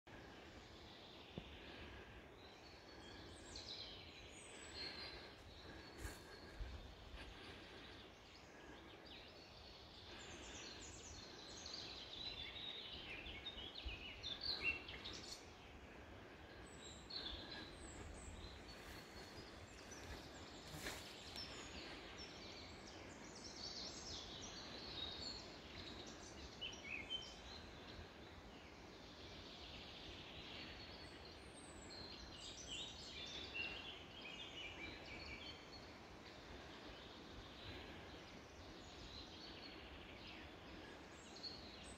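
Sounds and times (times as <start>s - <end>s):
birds chirping: 0.1s - 41.9s.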